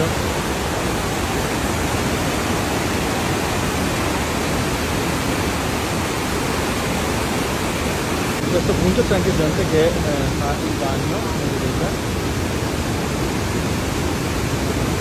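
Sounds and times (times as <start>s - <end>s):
whitewater pouring over rocks: 0.0s - 15.0s.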